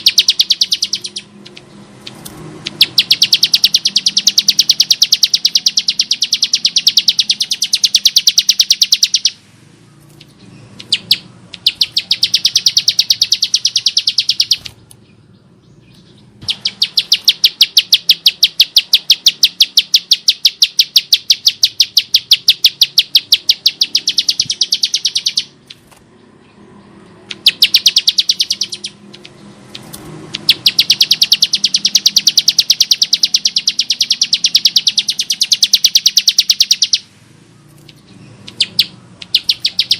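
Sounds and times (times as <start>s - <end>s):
bird calling rapid harsh notes: 0.0s - 9.4s, 10.1s - 14.9s, 16.0s - 26.0s, 27.2s - 39.9s.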